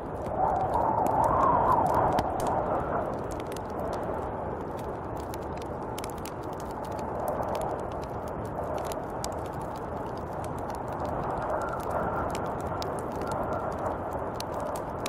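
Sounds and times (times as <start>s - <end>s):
snowstorm wind rushing: 0.0s - 15.0s
light ticks: 0.2s - 4.0s, 4.6s - 15.0s.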